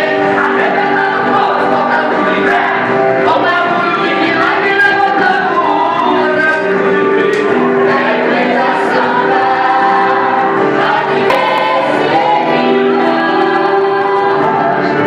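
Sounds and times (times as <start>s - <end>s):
group singing worship song: 0.0s - 15.0s.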